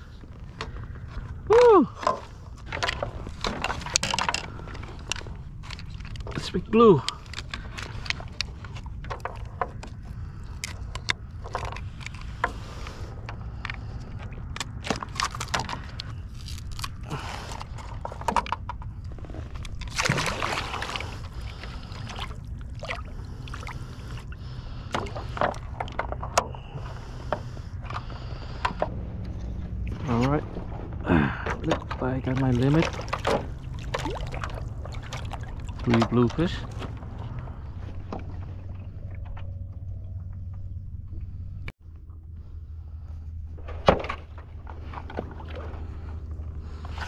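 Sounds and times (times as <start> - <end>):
low rumble: 0.0 - 47.0.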